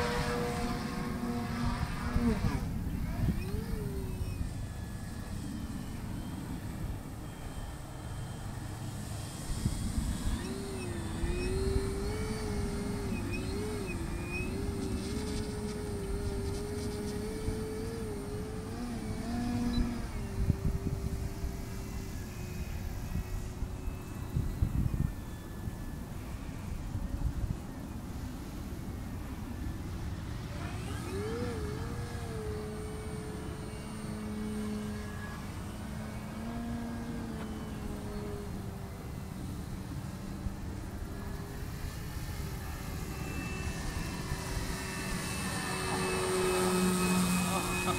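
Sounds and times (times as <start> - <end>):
wind rumbling on microphone: 0.0 - 7.2, 9.1 - 47.9
model plane propeller drone: 0.0 - 47.9.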